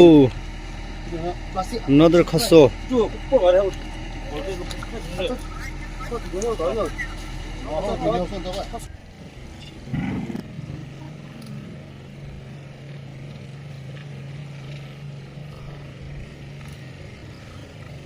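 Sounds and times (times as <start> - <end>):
steady low engine hum: 0.0 - 18.0.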